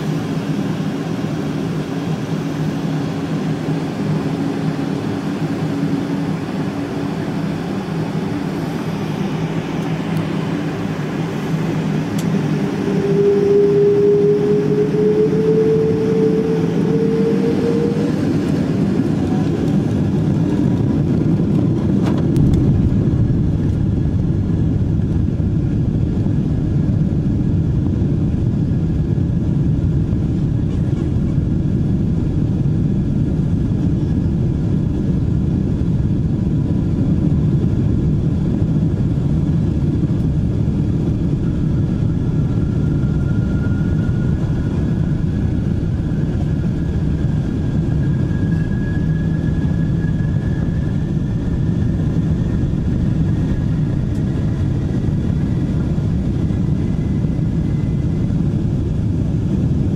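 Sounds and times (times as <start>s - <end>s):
faint high engine whine: 0.0s - 59.9s
low engine and airframe rumble: 0.0s - 59.9s.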